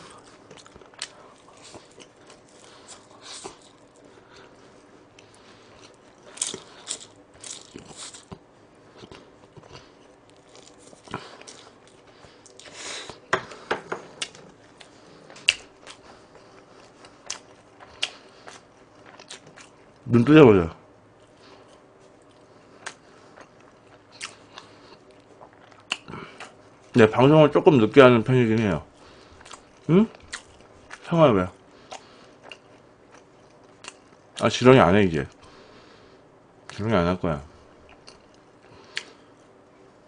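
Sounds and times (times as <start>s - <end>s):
person chewing: 0.0s - 20.0s, 21.1s - 26.9s, 28.6s - 31.1s, 31.7s - 34.4s, 37.7s - 39.4s.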